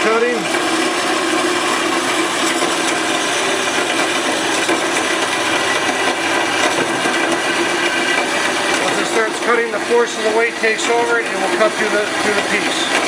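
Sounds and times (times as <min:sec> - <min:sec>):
bandsaw cutting: 0:00.0 - 0:13.0
motor hum: 0:00.0 - 0:13.0.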